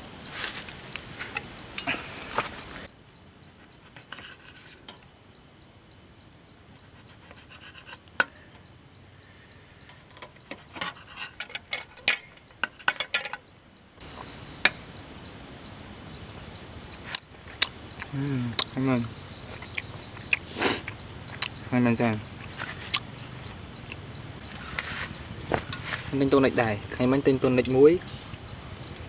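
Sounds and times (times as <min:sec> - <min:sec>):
high insect buzz: 0:00.0 - 0:11.7, 0:12.3 - 0:29.0.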